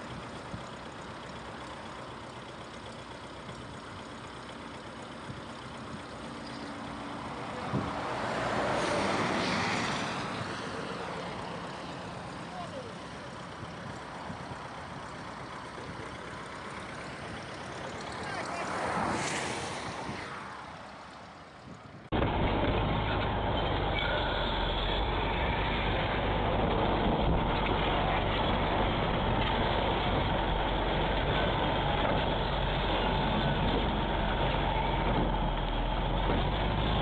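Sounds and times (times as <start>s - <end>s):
engine rumbling steadily: 0.0s - 37.0s.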